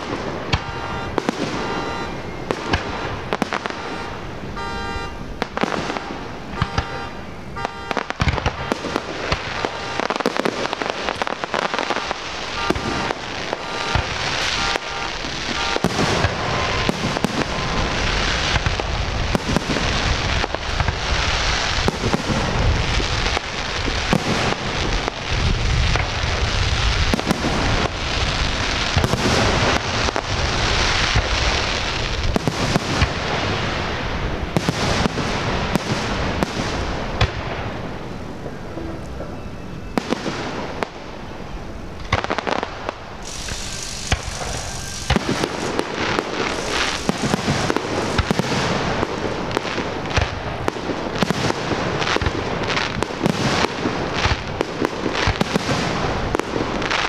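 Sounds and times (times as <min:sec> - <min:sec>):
deep firework booms: 0:00.0 - 0:38.7, 0:40.0 - 0:57.0
fireworks bangs and crackling: 0:00.0 - 0:57.0.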